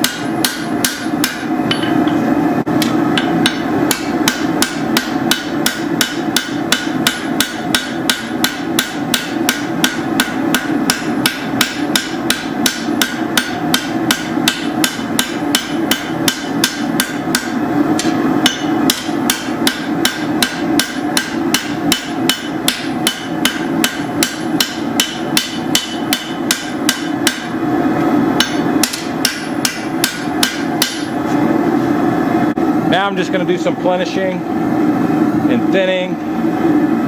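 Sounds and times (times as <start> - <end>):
hammer striking steel on anvil: 0.0 - 2.2, 2.8 - 27.6, 28.4 - 31.2
steady low rush: 0.0 - 37.0.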